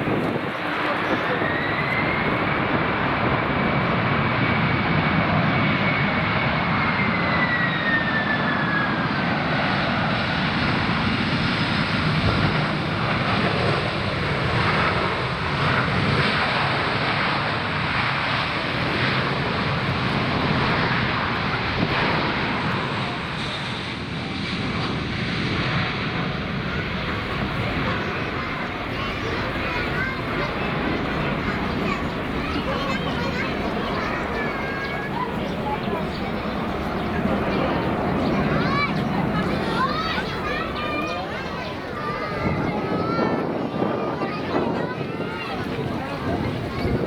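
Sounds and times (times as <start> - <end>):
jet airliner engine roar: 0.0 - 47.0.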